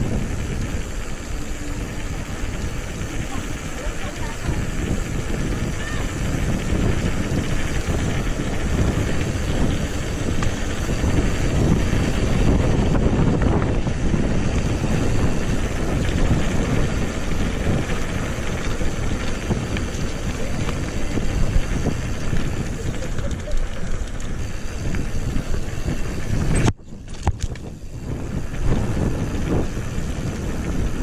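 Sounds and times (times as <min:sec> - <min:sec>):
bike tyres rolling on road: 0:00.0 - 0:31.0
wind buffeting microphone: 0:00.0 - 0:31.0.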